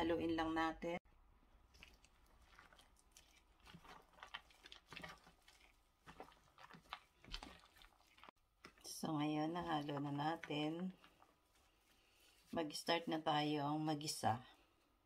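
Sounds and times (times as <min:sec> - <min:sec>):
plastic glove squishing and crinkling: 0:01.4 - 0:14.1.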